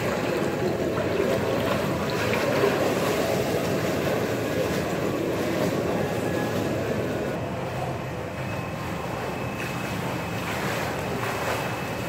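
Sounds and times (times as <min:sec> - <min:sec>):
pool water splashing and lapping: 0:00.0 - 0:12.0.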